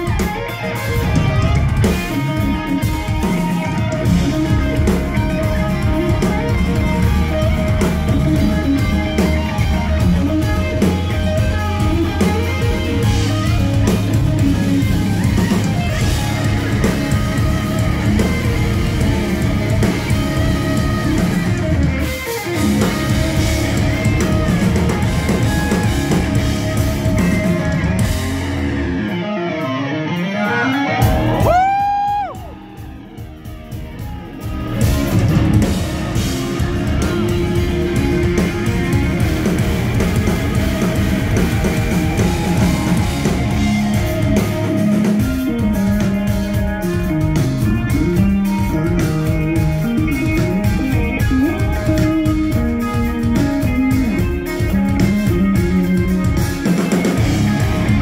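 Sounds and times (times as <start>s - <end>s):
live progressive rock band: 0.0s - 58.0s.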